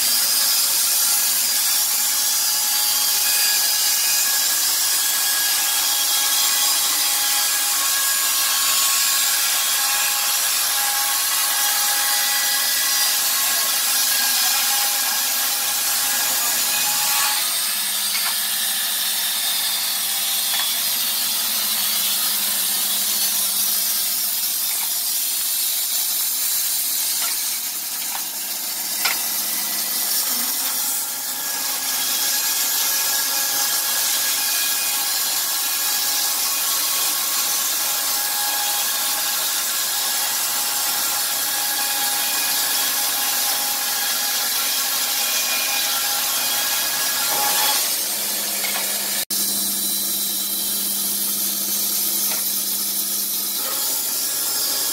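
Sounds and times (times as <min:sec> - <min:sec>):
band saw blade sawing timber: 0:00.0 - 0:54.9.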